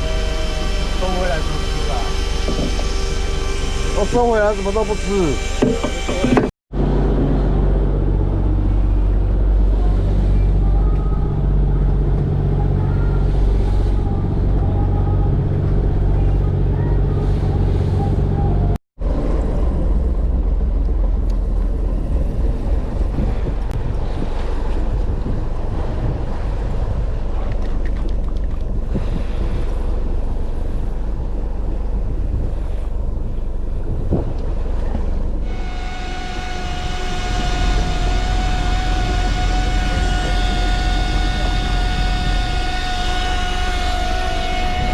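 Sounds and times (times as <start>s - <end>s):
boat engine running: 0.0s - 44.9s
water against hull: 0.0s - 44.9s
wind on microphone: 0.0s - 44.9s.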